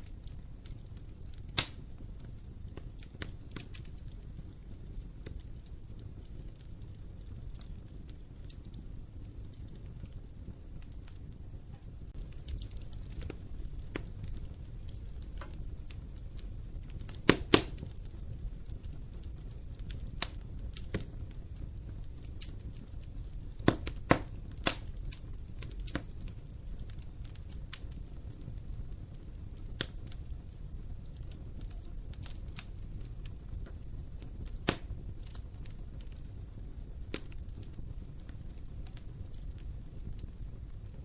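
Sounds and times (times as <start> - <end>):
low rumble of flames: 0.0 - 41.0
wood fire crackling and popping: 0.0 - 41.0.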